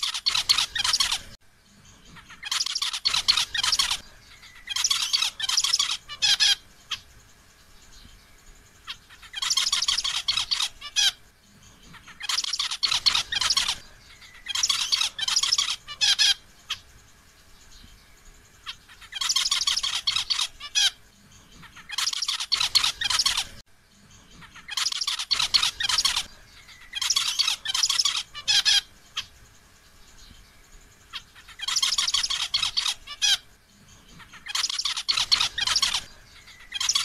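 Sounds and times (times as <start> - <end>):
finch singing buzzy notes: 0.0 - 37.0.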